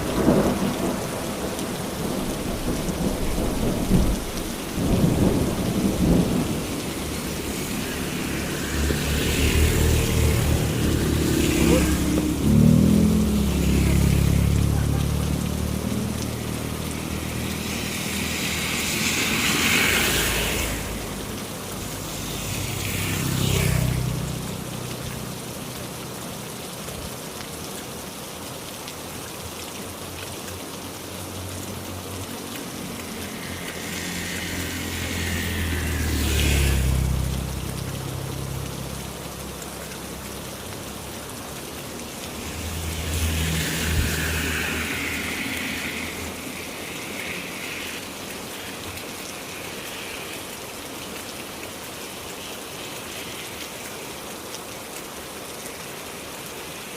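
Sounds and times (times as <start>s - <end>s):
heavy rain: 0.0s - 56.9s
vehicle passing on wet road: 0.0s - 56.9s.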